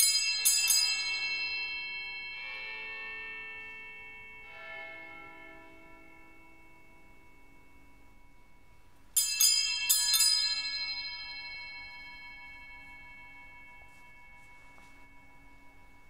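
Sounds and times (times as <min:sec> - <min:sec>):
altar bells ringing: 0:00.0 - 0:16.0.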